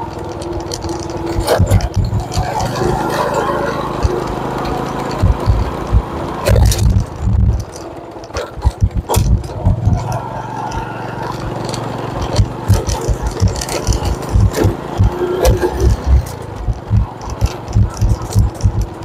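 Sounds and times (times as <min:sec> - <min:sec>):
motorcycle engine at low speed: 0:00.0 - 0:19.0
thumps and rattles over bumps: 0:00.0 - 0:19.0.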